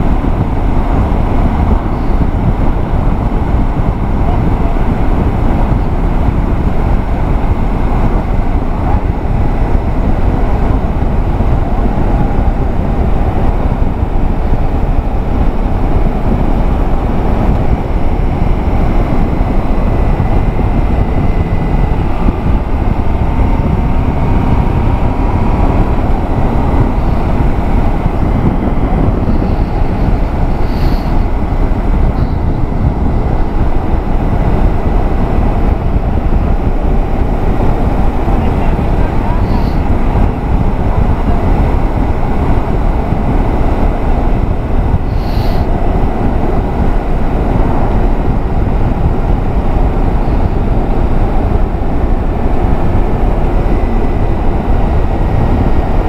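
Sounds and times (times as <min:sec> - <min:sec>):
vehicle engine and road noise: 0:00.0 - 0:56.0
wind on microphone: 0:00.0 - 0:56.0.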